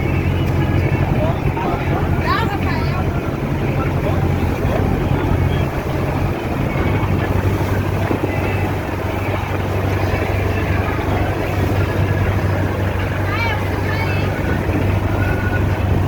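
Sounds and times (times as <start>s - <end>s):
motorboat engine humming: 0.0s - 16.0s
water rushing: 0.0s - 16.0s
wind: 0.0s - 16.0s.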